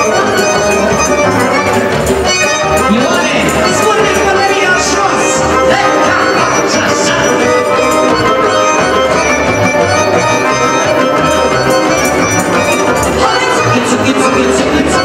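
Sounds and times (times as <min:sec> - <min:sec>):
accordion: 0:00.0 - 0:15.0
live band playing dance music: 0:00.0 - 0:15.0.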